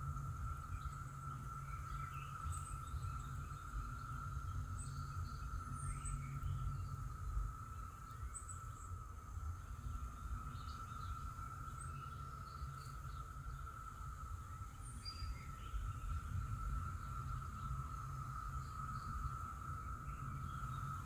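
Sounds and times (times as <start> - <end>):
distant cicada chorus: 0.0 - 21.0.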